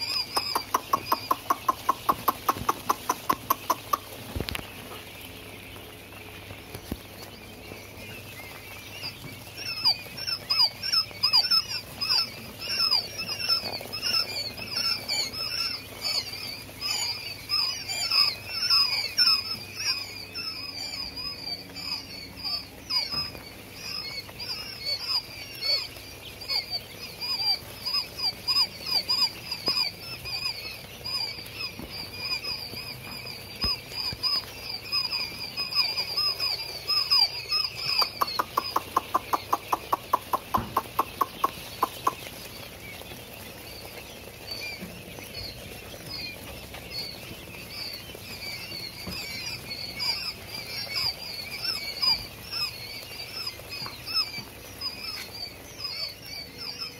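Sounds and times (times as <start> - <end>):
quail chicks peeping: 0.0 - 56.9.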